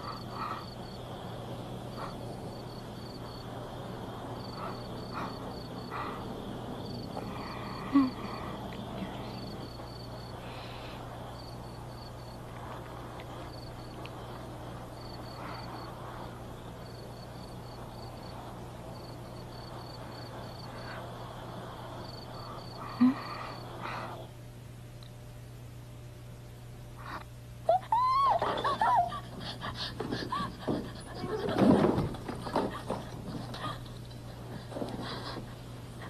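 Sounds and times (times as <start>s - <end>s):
crickets chirping: 0.0s - 24.7s, 27.0s - 36.0s
steady low hum: 0.0s - 36.0s.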